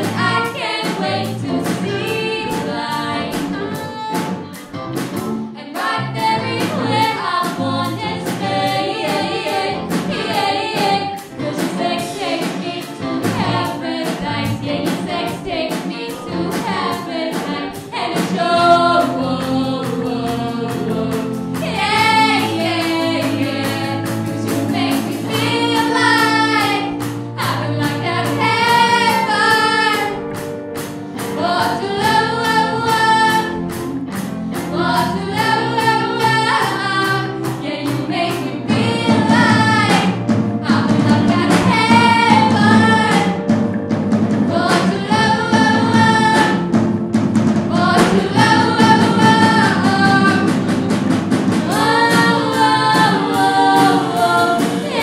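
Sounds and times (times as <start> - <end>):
two singers singing together: 0.0 - 4.6, 5.6 - 30.2, 31.2 - 33.7, 34.6 - 43.5, 44.4 - 46.8, 47.7 - 55.0
live band playing: 0.0 - 55.0.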